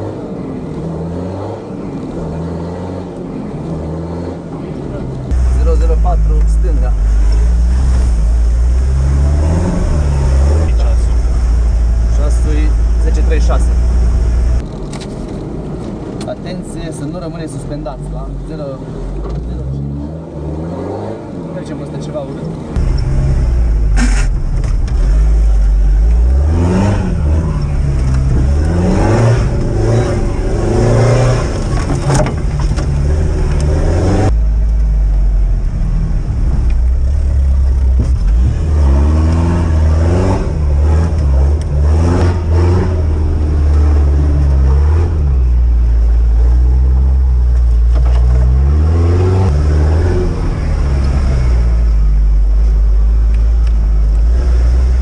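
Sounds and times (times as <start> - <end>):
off-road vehicle engine revving: 0.0 - 14.7, 17.6 - 55.0.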